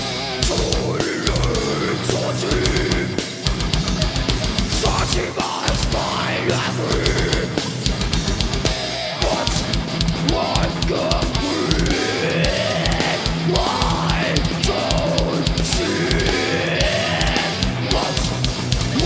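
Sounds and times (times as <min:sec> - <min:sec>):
distorted guitars: 0:00.0 - 0:19.0
metal band playing live: 0:00.0 - 0:19.0
fast kick drum beat: 0:02.5 - 0:06.1, 0:06.9 - 0:19.0.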